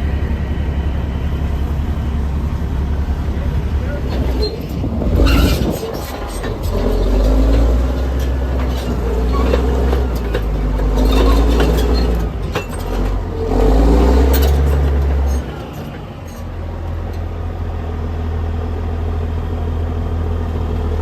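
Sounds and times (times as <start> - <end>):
diesel engine revving: 0.0 - 21.0.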